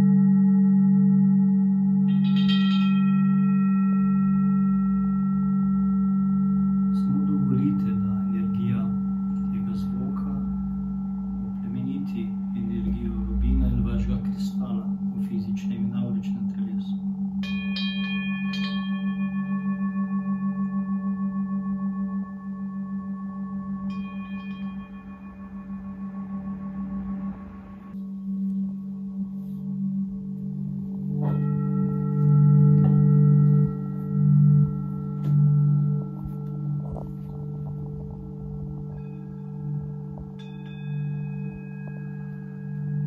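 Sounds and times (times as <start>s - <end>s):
bright high chime: 0.0s - 43.0s
low steady tone: 0.0s - 43.0s
singing bowl deep hum: 0.0s - 43.0s
singing bowl struck ringing: 0.0s - 43.0s.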